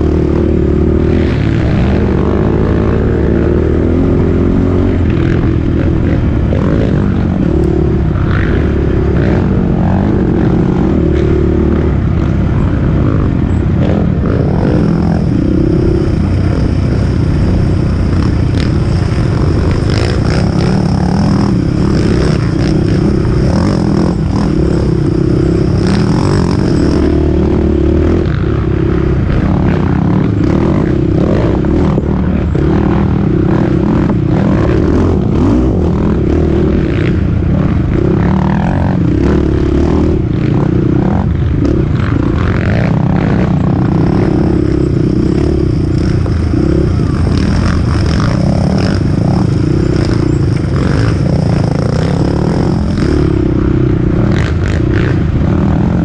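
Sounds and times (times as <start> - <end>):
quad bike engine running hard: 0.0 - 56.0.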